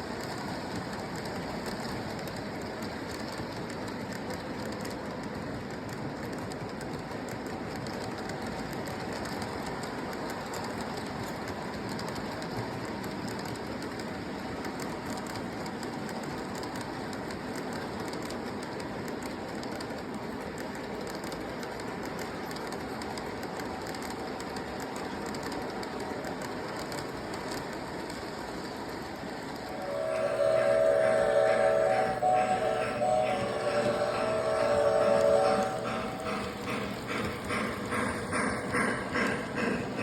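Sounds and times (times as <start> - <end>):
model train rumbling on track: 0.0 - 40.0.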